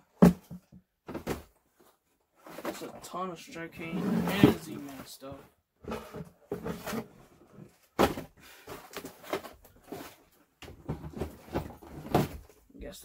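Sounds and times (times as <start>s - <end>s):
plastic bins knocking and clattering: 0.0s - 3.1s, 3.9s - 12.6s.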